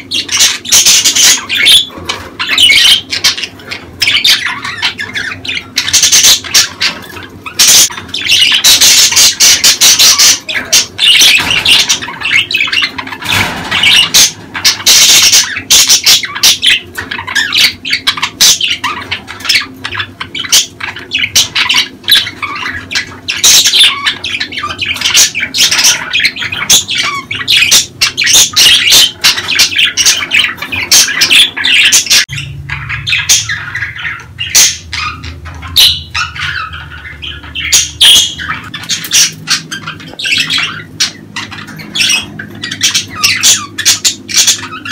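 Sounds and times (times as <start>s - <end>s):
budgerigars chirping and squawking: 0.0s - 44.9s.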